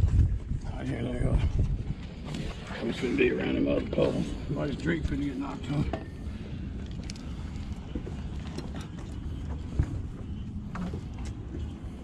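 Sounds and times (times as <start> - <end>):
wind noise: 0.0 - 12.0.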